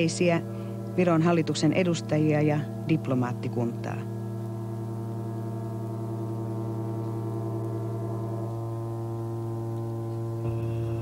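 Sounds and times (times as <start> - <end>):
ship horns blasting: 0.0 - 11.0.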